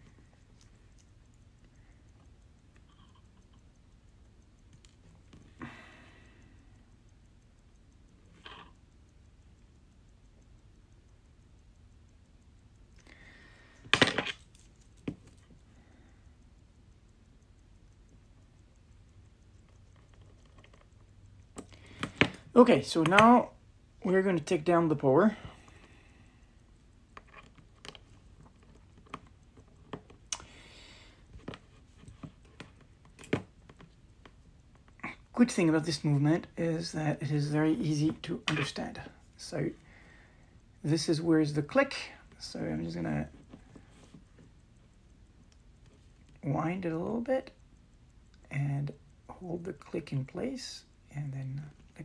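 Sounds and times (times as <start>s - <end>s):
metal tools clicking on watch: 0.0s - 52.0s.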